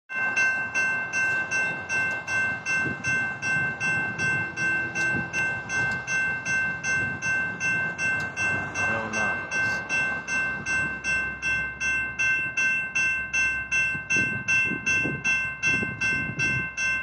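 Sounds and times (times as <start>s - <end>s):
railroad crossing bells ringing: 0.1s - 17.0s.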